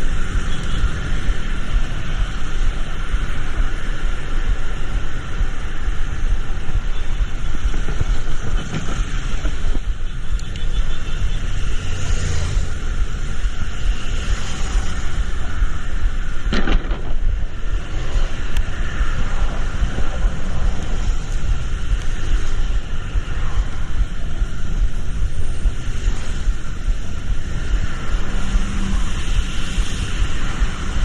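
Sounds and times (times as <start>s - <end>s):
heavy low rumble: 0.0s - 31.0s
road traffic: 0.0s - 31.0s.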